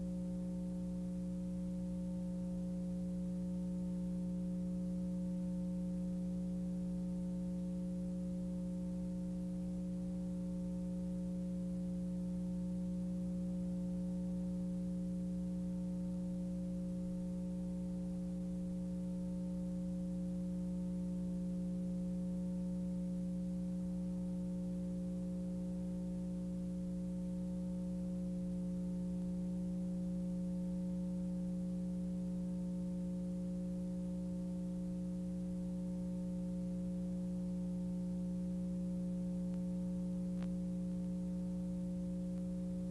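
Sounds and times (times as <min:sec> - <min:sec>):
electrical mains hum: 0:00.0 - 0:42.9.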